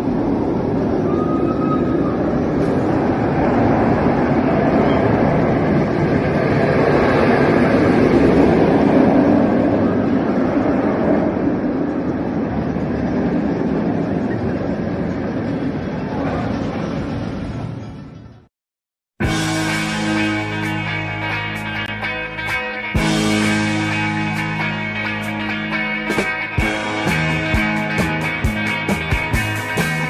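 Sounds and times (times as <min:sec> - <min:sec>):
roller coaster rumbling roar: 0:00.0 - 0:18.4, 0:19.2 - 0:30.0.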